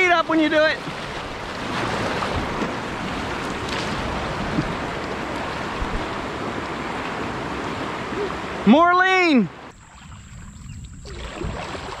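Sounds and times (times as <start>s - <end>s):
whitewater rushing: 0.0s - 9.7s.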